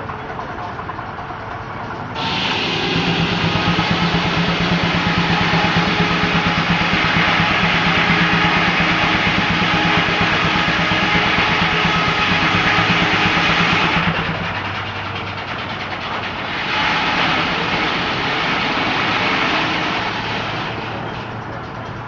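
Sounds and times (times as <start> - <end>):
sawmill machine running: 0.0 - 22.0
broad rushing sound: 2.2 - 21.4.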